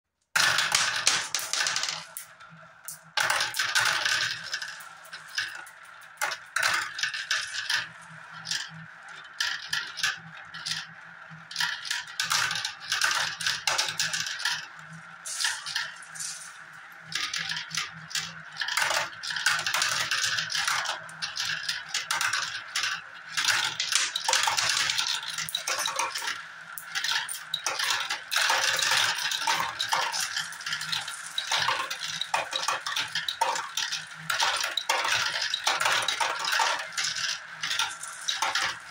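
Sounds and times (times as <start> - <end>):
marbles rattling through plastic run: 0.4 - 38.9.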